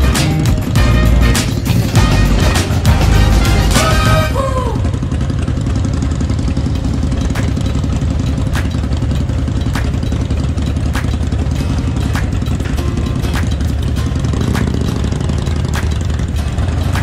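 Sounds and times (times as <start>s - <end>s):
motorcycle engine idling: 0.0s - 17.0s
other motorcycles idling: 0.0s - 17.0s.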